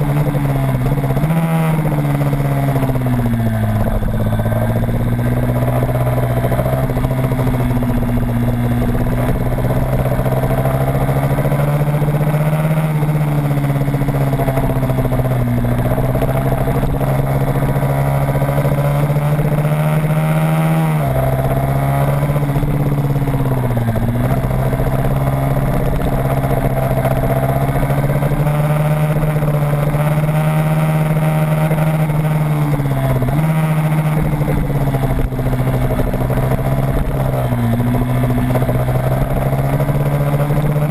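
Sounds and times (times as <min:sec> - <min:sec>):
motorcycle engine revving hard: 0:00.0 - 0:40.9.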